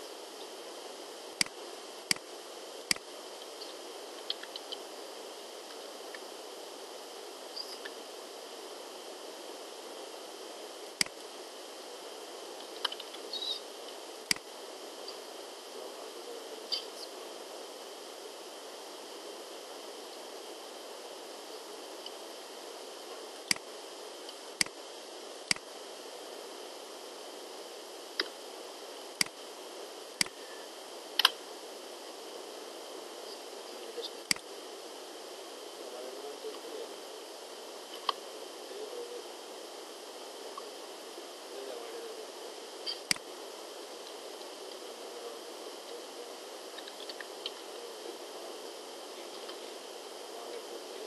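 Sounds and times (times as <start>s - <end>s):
background hiss: 0.0s - 51.0s.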